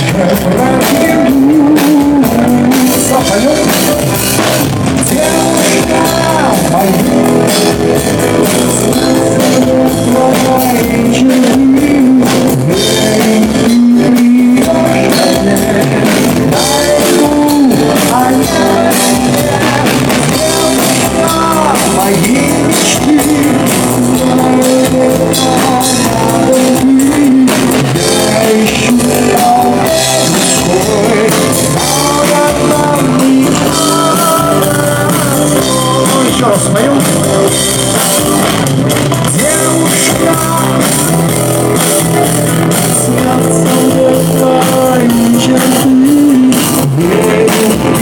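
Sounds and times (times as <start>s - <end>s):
live pop-rock band: 0.0s - 48.0s.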